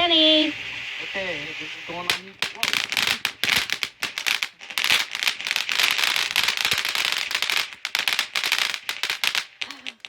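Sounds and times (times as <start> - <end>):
firework crackling pops: 0.0 - 10.0
firework hiss: 0.0 - 10.0.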